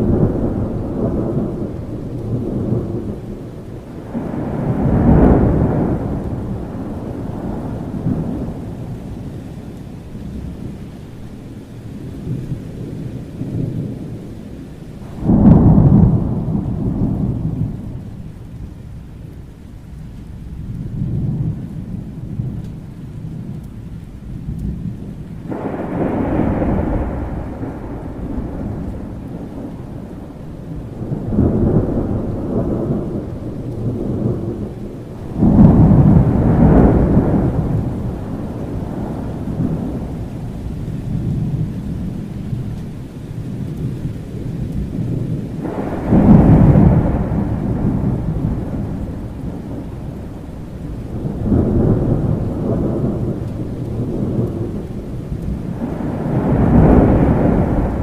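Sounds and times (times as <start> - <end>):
rolling thunder: 0.0 - 58.0
steady rain: 0.0 - 58.0.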